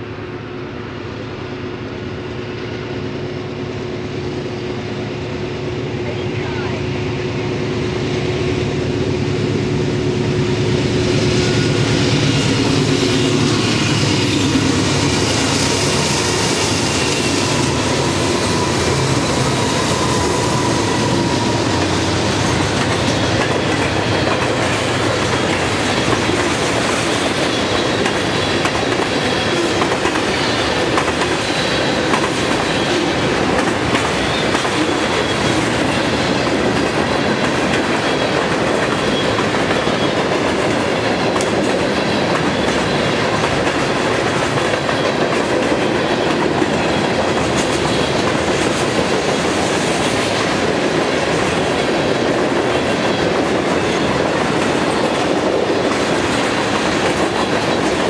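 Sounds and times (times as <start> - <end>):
diesel locomotive engines: 0.0 - 58.0
wheels clacking over rails: 11.5 - 58.0.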